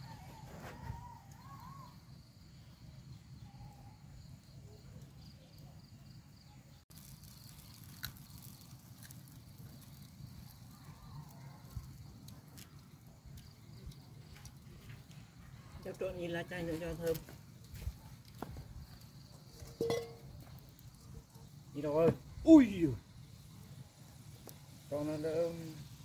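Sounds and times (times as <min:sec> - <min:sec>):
fire crackles: 0:00.0 - 0:26.0.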